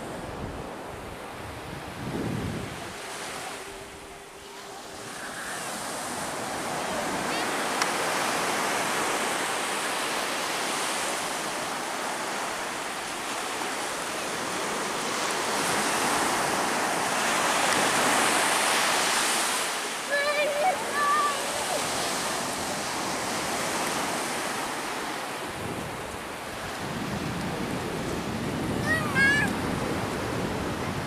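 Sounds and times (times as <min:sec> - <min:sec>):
surf breaking on beach: 0:00.0 - 0:31.0.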